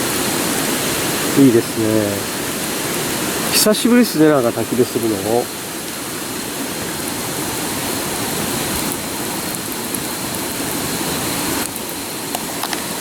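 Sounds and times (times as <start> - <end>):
campfire hissing: 0.0 - 13.0
fire crackles: 0.0 - 13.0.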